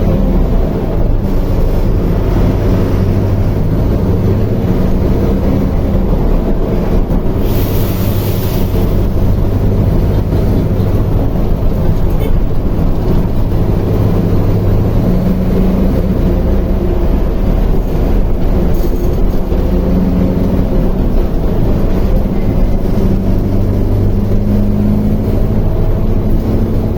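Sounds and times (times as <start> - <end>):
diesel bus engine running: 0.0 - 26.9.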